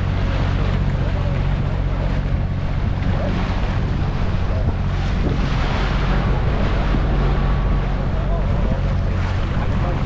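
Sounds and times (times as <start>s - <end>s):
boat motor humming: 0.0s - 10.0s
water rushing along hull: 0.0s - 10.0s
wind buffeting microphone: 0.0s - 10.0s.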